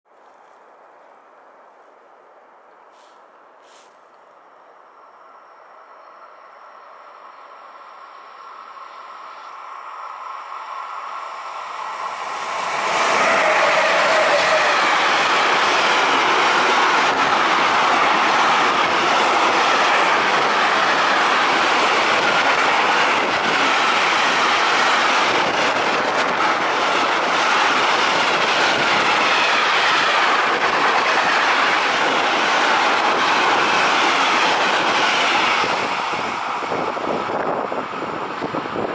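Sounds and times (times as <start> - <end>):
electric locomotives passing: 0.7 - 38.9.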